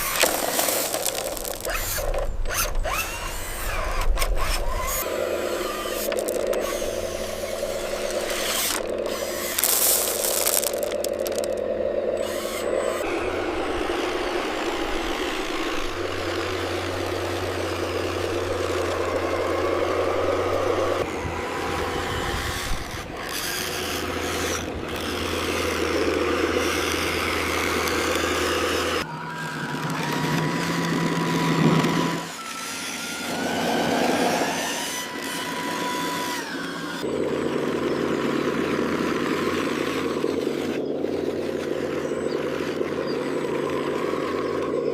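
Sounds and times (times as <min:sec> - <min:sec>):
heavy diesel machinery running: 0:00.0 - 0:44.9
thin steady whine: 0:00.0 - 0:44.9.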